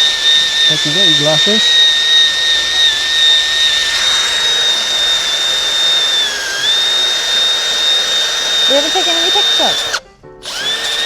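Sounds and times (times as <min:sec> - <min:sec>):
power drill whining: 0:00.0 - 0:11.0.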